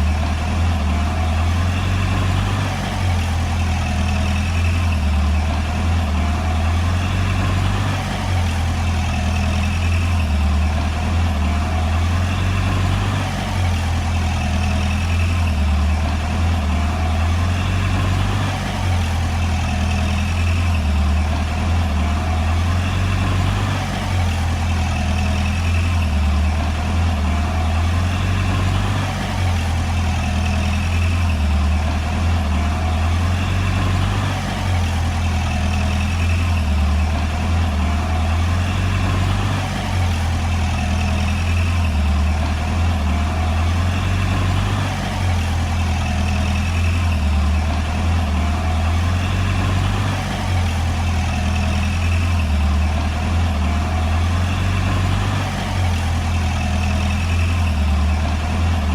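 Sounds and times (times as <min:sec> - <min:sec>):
bulldozer diesel engine droning: 0:00.0 - 0:58.9.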